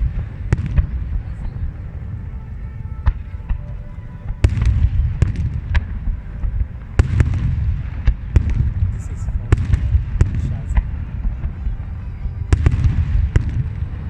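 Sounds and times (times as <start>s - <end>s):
low rumble of fireworks: 0.0s - 14.0s.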